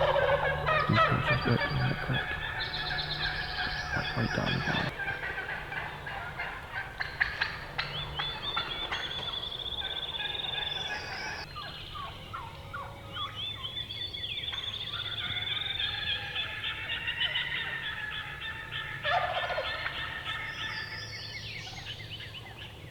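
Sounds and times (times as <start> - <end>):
turkeys gobbling: 0.0 - 13.4, 14.4 - 22.8.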